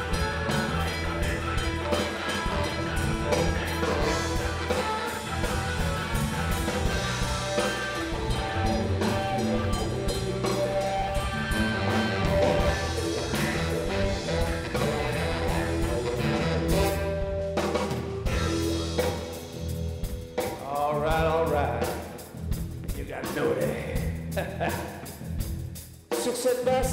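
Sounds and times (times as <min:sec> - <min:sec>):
electric guitar: 0:00.0 - 0:25.4
drum kit beat: 0:00.0 - 0:26.9.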